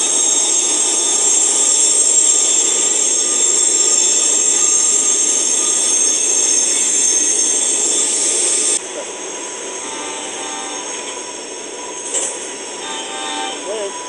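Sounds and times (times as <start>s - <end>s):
high-pitched wheel squeal: 0.0s - 8.8s, 9.4s - 14.0s
freight train rumbling past: 0.0s - 14.0s.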